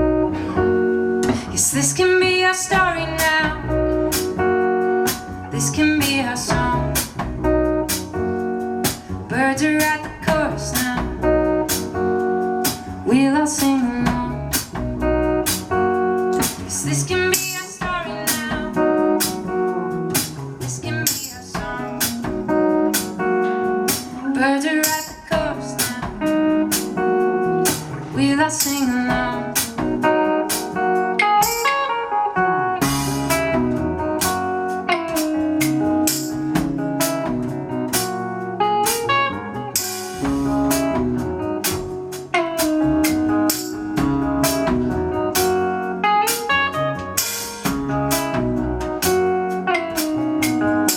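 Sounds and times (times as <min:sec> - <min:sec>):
drums steady beat: 0:00.0 - 0:31.9, 0:32.8 - 0:50.9
lead guitar: 0:00.0 - 0:50.9
live band playing: 0:00.0 - 0:50.9.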